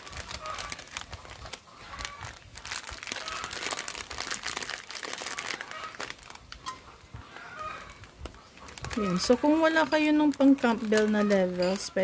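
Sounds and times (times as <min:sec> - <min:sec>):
soup packet crinkling: 0:00.0 - 0:06.6, 0:07.2 - 0:12.0.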